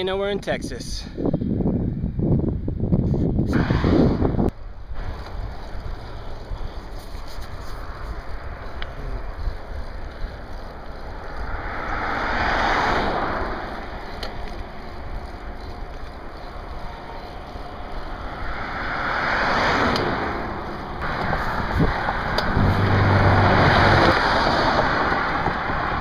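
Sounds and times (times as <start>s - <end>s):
wind buffeting microphone: 0.5s - 26.0s
vehicles passing: 3.5s - 26.0s.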